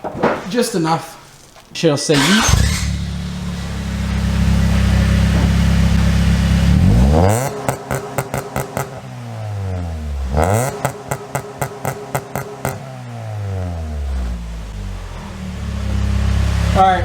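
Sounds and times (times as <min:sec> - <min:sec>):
car engine revving: 0:02.1 - 0:17.0
rapid engine clatter: 0:02.2 - 0:17.0.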